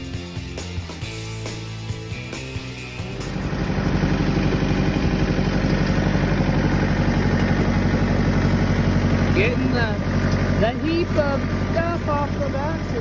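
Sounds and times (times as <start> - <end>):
engine idling: 0.2 - 13.0.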